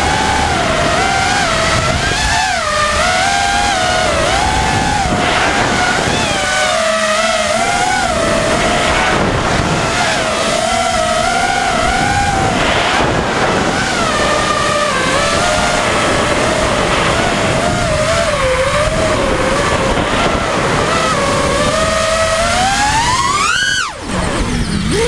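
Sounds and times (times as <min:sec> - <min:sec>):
drone motors whining: 0:00.0 - 0:25.0
wind noise: 0:00.0 - 0:25.0.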